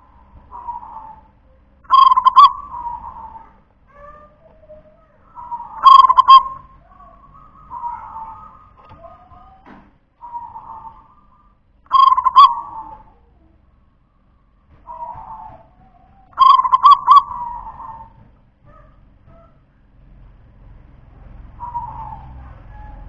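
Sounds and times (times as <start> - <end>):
dove cooing: 0.0 - 13.6, 14.8 - 19.6, 21.5 - 23.0.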